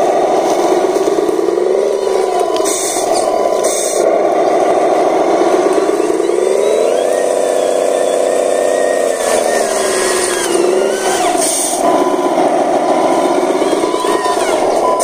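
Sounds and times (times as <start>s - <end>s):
model truck engine revving: 0.0s - 15.0s
thin whine: 0.0s - 15.0s.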